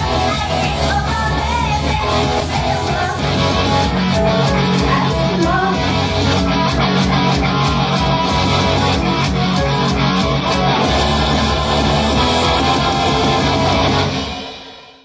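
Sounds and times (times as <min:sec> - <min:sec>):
drumbeat: 0:00.0 - 0:13.9
electric guitar strumming: 0:00.0 - 0:14.4.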